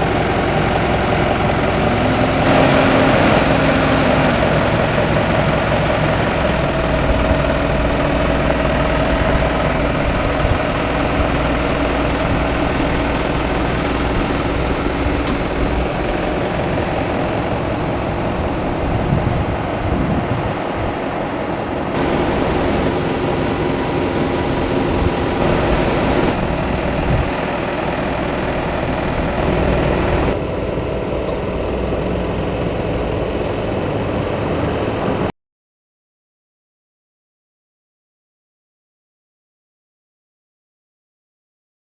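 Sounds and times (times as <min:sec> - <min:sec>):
engine hum with low drone: 0:00.0 - 0:35.3.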